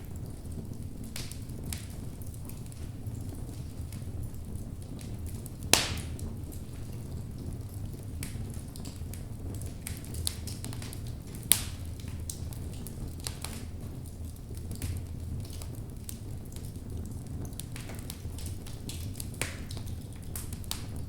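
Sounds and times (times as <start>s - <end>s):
fire crackling: 0.0s - 21.0s
fire flames rumbling: 0.0s - 21.0s.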